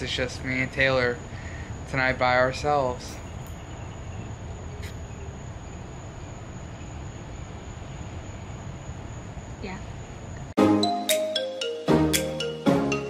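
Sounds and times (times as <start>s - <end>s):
crickets trilling: 0.0s - 10.5s.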